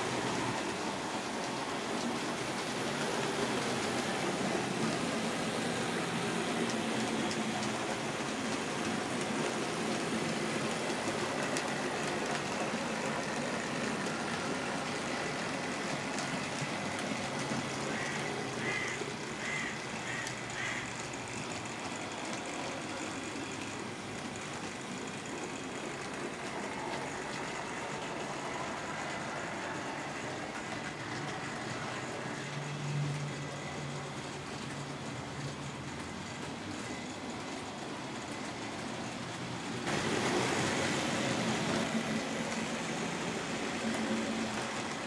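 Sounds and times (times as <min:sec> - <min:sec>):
model trains whirring and rattling: 0:00.0 - 0:45.0.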